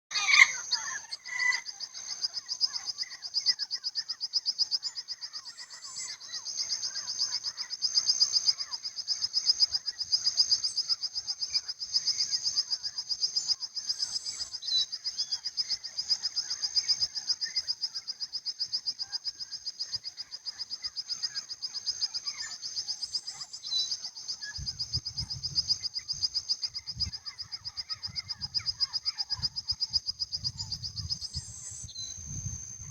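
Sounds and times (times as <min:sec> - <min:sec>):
frogs trilling: 0:00.1 - 0:32.9
lower frog calls: 0:00.1 - 0:32.9.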